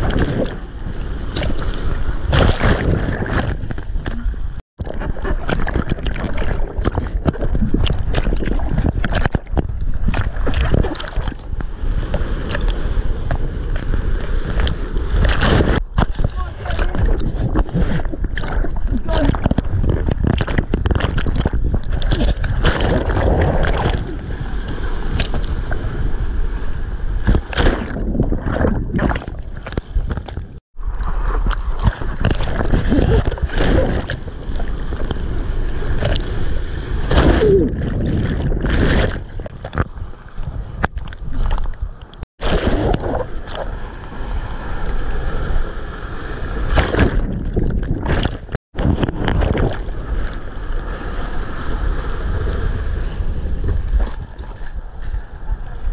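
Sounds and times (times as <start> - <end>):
wind on microphone: 0.0 - 55.9
seawater sloshing and splashing: 1.2 - 26.1, 27.2 - 45.6, 46.2 - 52.2.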